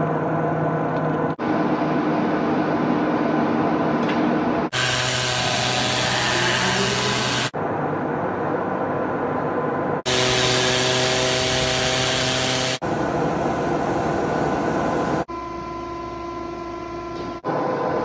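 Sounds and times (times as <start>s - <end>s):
workshop machine hum: 0.0s - 18.0s.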